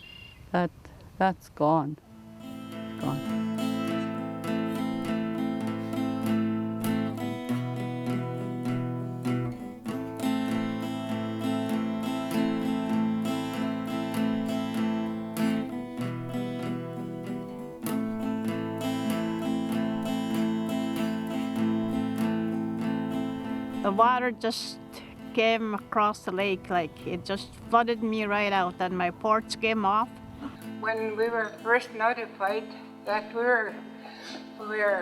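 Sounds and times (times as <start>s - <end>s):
strummed acoustic guitar chords: 2.0s - 35.0s.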